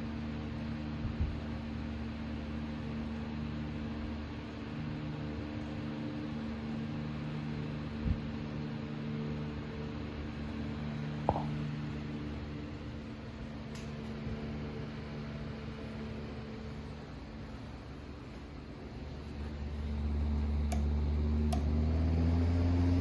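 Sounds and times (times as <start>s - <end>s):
table fan running: 0.0s - 23.0s.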